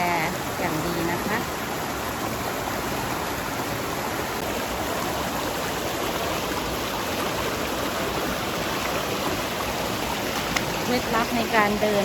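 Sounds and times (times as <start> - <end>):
fast-flowing stream rushing: 0.0 - 12.0.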